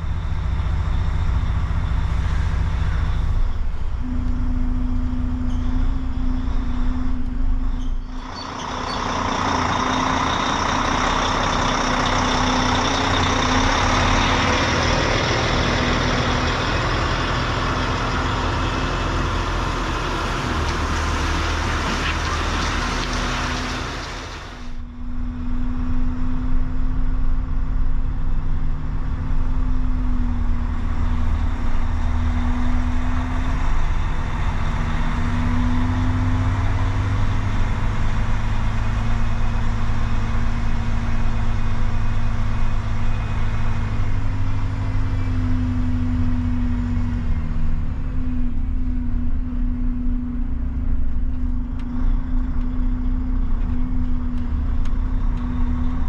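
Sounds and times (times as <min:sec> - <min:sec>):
road and tyre noise: 0:00.0 - 0:56.0
truck engine drone: 0:00.0 - 0:56.0.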